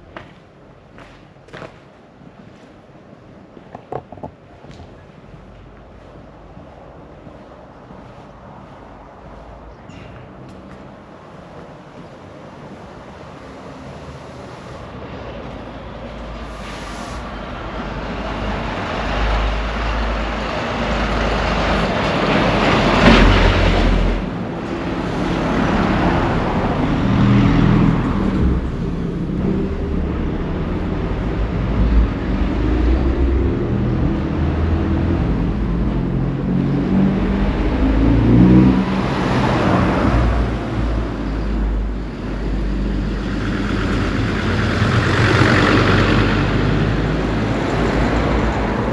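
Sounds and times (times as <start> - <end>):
vehicles passing by: 0.0 - 48.9.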